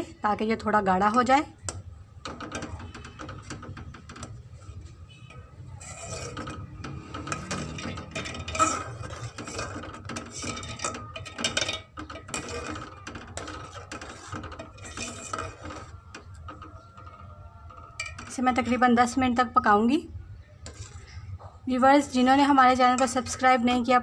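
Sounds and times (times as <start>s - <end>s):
ladle scraping metal pot: 0.4s - 19.6s, 20.6s - 24.0s.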